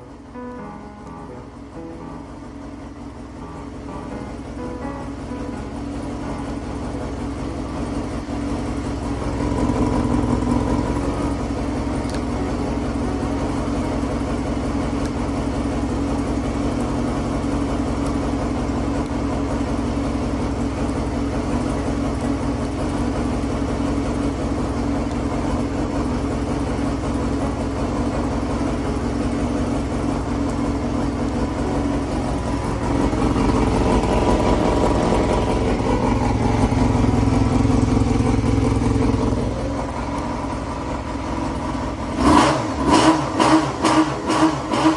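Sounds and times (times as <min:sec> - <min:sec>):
motorcycle engine idling: 0:00.0 - 0:43.4.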